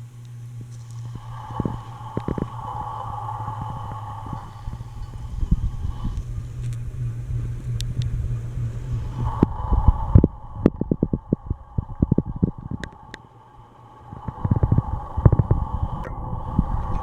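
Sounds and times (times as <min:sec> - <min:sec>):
ceiling fan motor hum: 0:00.0 - 0:17.0
wind thumps on microphone: 0:00.6 - 0:13.2, 0:14.1 - 0:17.0.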